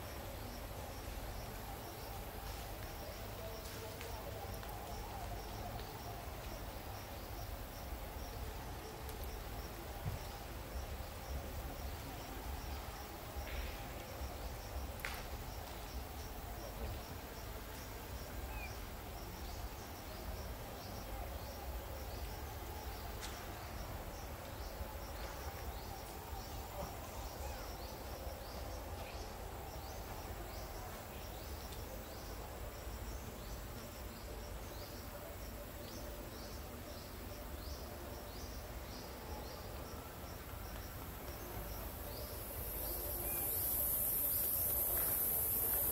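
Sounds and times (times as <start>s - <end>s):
insect chirping: 0.0s - 45.9s.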